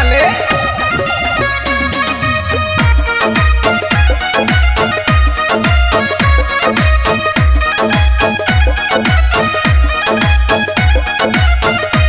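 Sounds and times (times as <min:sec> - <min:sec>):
sustained melody line: 0:00.0 - 0:12.0.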